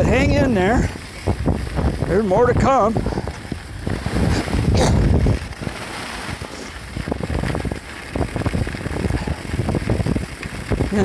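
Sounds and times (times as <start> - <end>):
skis sliding over snow: 0.0 - 11.0
wind on microphone: 0.0 - 11.0.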